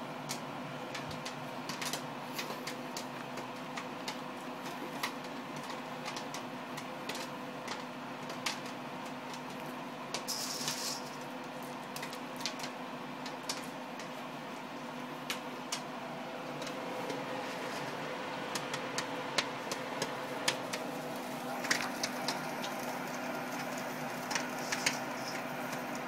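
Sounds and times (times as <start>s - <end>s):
machine hum: 0.0s - 26.0s
popcorn popping: 0.0s - 26.0s.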